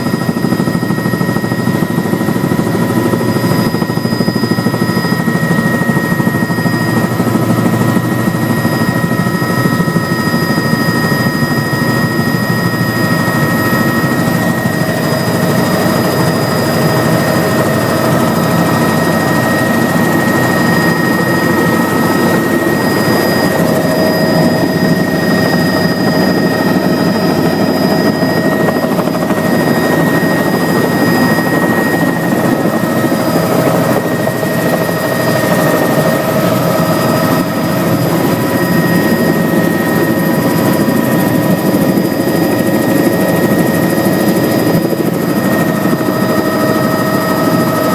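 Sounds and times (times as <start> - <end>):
helicopter engine and rotor: 0.0 - 47.9
high turbine whine: 0.0 - 47.9.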